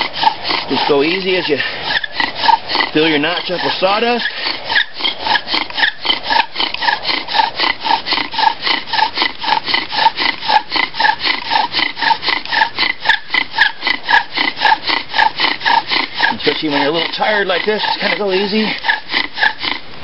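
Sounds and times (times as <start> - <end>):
bow drill squeaky rasp: 0.0 - 20.0.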